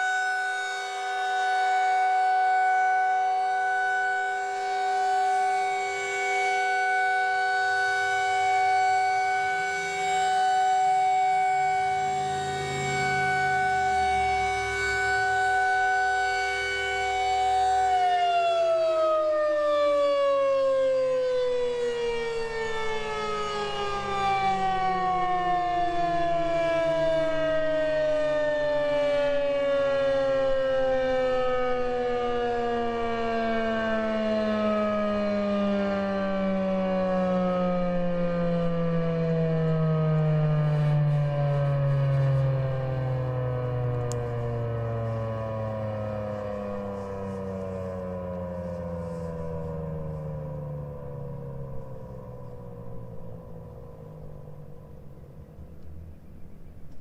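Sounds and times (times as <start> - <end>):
siren winding down: 0.0 - 56.3
warning siren steady tone: 0.0 - 57.0.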